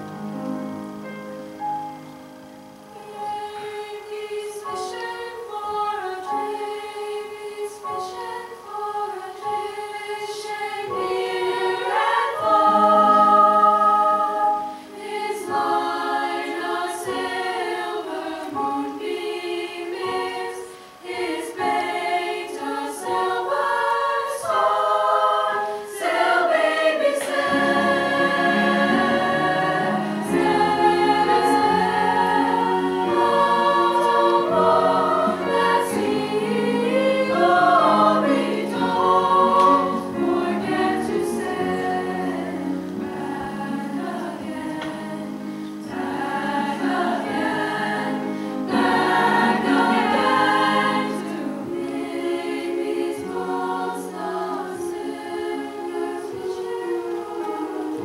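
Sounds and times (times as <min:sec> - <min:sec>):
choir singing slow chords: 0:00.0 - 0:58.0.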